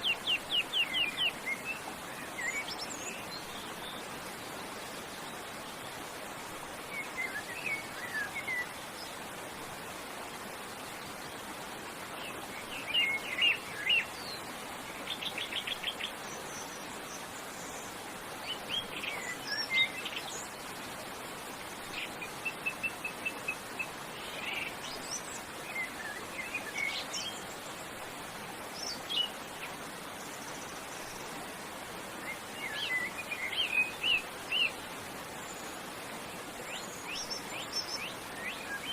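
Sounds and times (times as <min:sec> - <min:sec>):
songbirds chirping and trilling: 0:00.0 - 0:38.9
waterfall rushing: 0:00.0 - 0:38.9.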